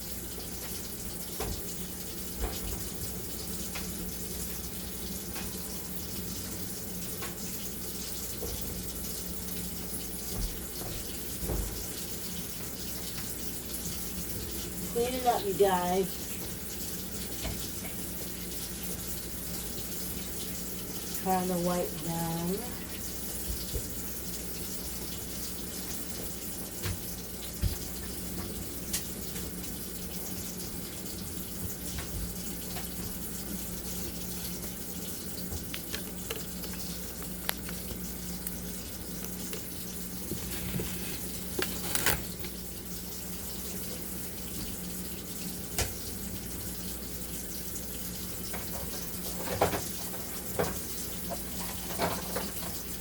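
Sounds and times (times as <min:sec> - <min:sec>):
tap water running: 0:00.0 - 0:53.0.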